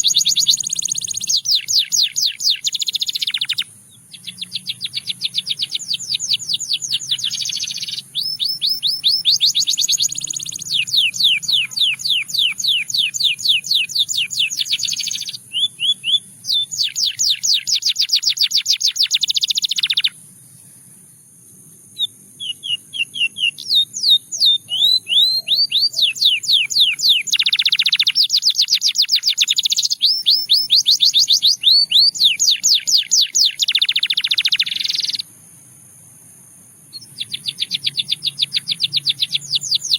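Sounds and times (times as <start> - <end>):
canary singing trills: 0.0 - 20.2, 22.0 - 35.3, 36.9 - 39.9.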